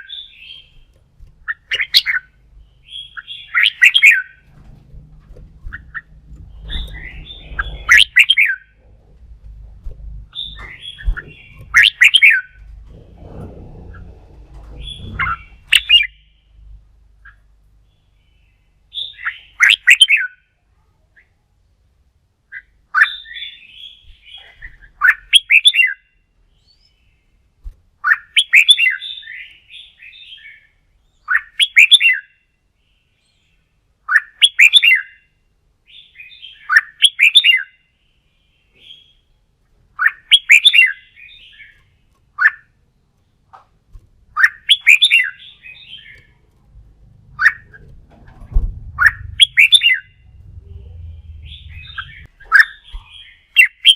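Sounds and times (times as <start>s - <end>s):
bird singing warbled song: 0.0s - 20.5s, 22.5s - 43.6s, 44.3s - 53.9s.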